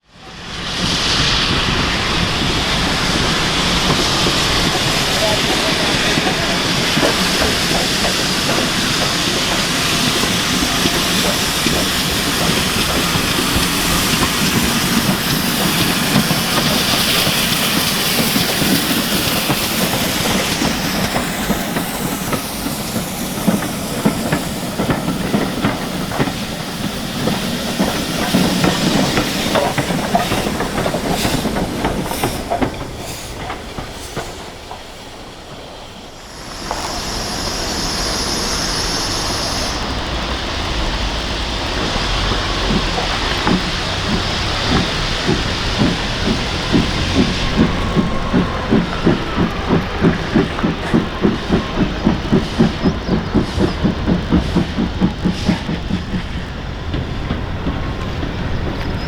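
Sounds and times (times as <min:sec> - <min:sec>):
steam hissing: 0:00.0 - 0:59.0
train wheels clacking over rails: 0:00.0 - 0:59.0.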